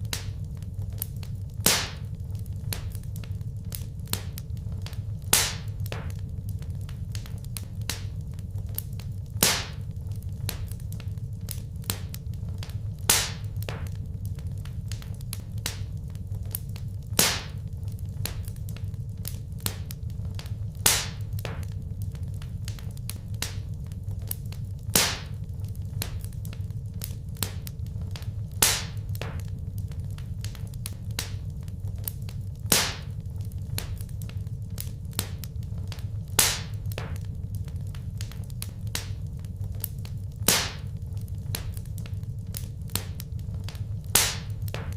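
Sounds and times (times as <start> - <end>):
loud sharp fire pops: 0.0 - 44.9
wood fire crackling: 0.0 - 44.9.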